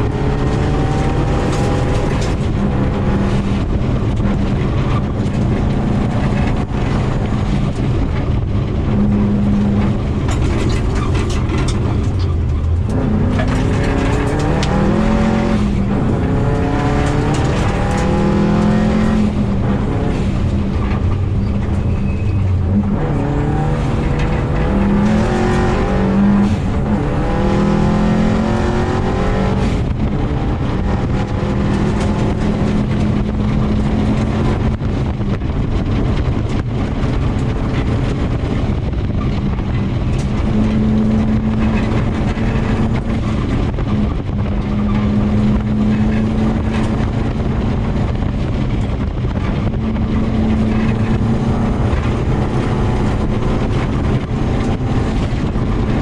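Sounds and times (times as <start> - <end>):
car engine revving under load: 0.0 - 56.0
tyres rumbling on gravel: 0.0 - 56.0.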